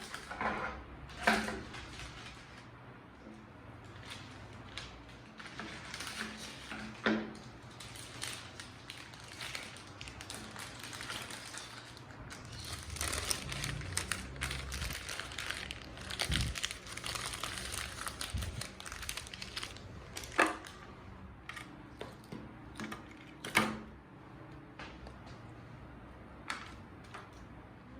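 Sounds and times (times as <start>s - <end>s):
crinkling and rustling: 0.0s - 2.8s, 3.7s - 23.5s.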